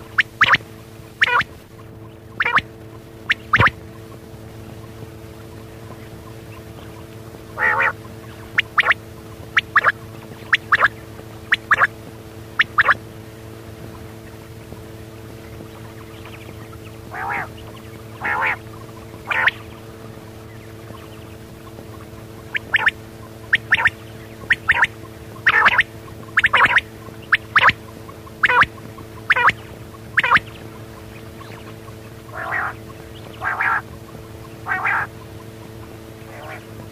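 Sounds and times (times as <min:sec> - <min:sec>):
quail calling: 0:00.0 - 0:13.1, 0:13.8 - 0:36.9
steady low hum: 0:00.0 - 0:36.9.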